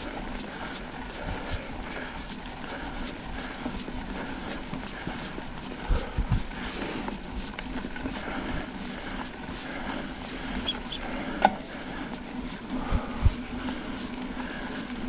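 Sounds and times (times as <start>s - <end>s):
mountain bike riding on dirt: 0.0s - 15.0s.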